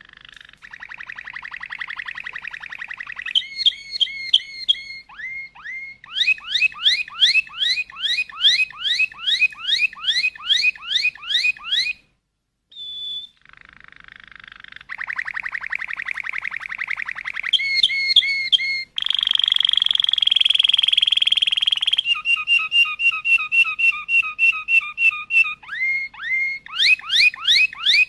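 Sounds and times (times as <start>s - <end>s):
bird trilling: 0.0s - 12.0s, 12.7s - 28.0s
rising whistled bird notes: 0.0s - 12.0s, 12.7s - 28.0s
sharp repeated bird notes: 0.0s - 12.1s, 12.8s - 28.0s.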